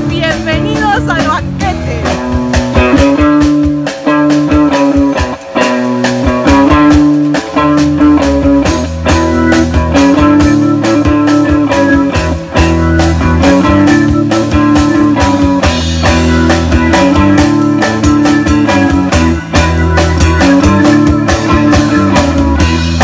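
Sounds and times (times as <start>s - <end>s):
bass guitar: 0.0s - 23.0s
drum kit beat: 0.0s - 23.0s
electric guitar: 0.0s - 23.0s.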